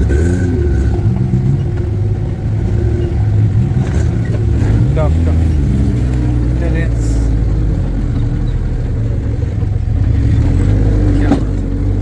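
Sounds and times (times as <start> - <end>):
jeep engine running: 0.0 - 12.0.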